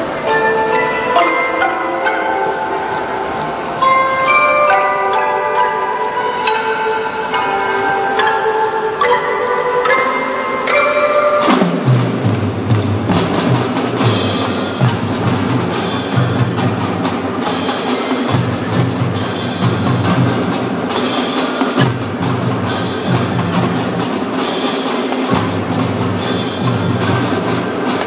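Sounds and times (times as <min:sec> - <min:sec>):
marimbas and xylophones playing: 0:00.0 - 0:28.0.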